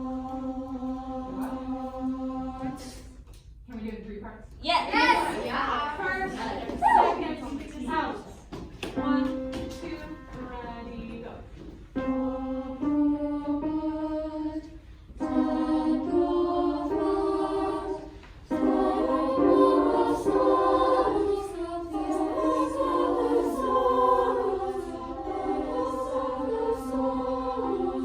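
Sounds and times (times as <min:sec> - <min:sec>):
girls choir singing a round: 0:00.0 - 0:03.3, 0:04.6 - 0:28.0.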